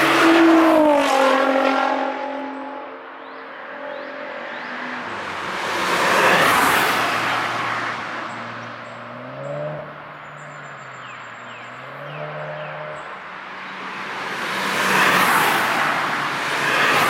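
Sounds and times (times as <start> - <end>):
car passing at speed: 0.0 - 17.0.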